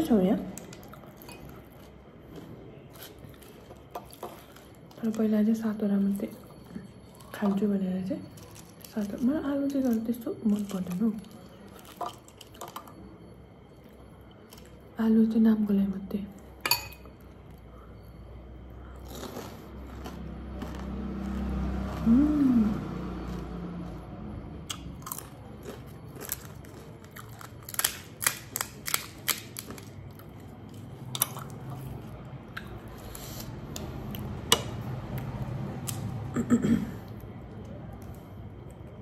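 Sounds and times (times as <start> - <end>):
crunchy chewing: 0.5 - 15.0, 18.7 - 36.3.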